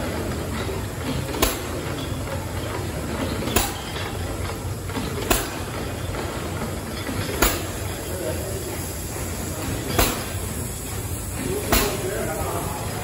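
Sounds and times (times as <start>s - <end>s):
steam engines running: 0.0s - 13.0s.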